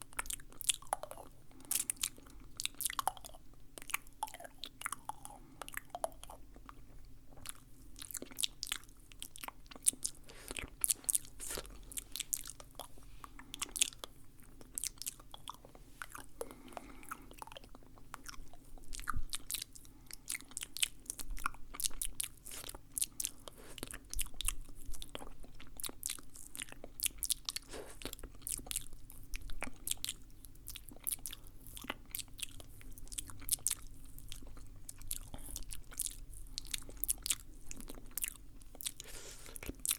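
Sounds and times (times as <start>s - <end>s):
wet tongue and lip clicks: 0.0s - 39.9s.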